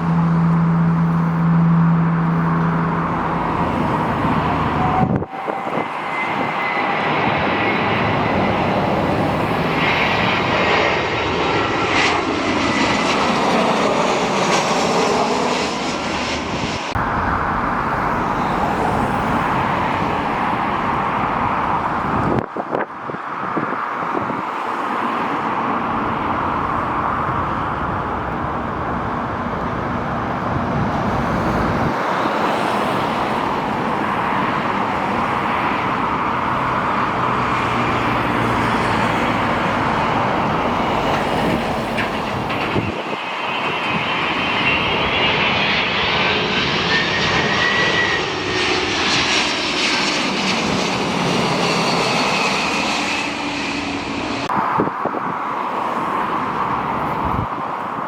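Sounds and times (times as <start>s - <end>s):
high engine whine: 0.0s - 58.0s
jet engines rushing: 0.0s - 58.0s.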